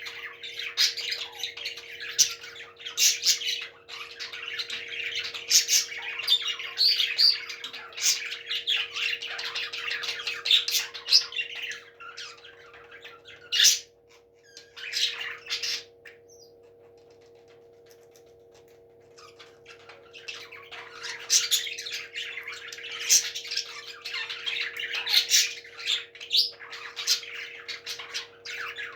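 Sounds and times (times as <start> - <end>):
parrots chattering and squawking: 0.0 - 28.9.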